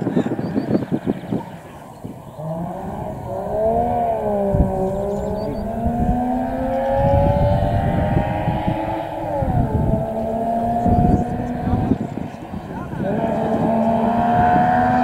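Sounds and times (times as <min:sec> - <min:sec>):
rally car engine approaching: 0:01.0 - 0:15.0.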